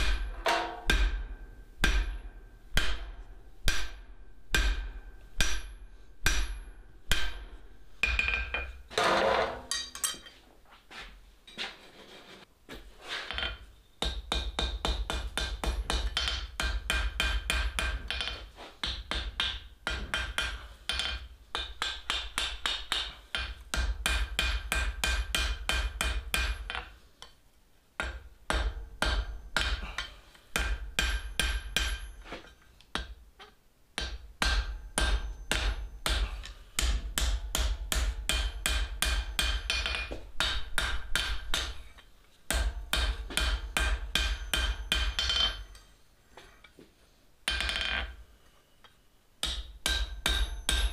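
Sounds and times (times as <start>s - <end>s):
hammer striking steel on anvil: 0.0s - 8.8s, 9.7s - 10.3s, 14.0s - 26.9s, 28.0s - 33.2s, 34.0s - 46.0s, 47.5s - 48.2s, 48.8s - 50.9s.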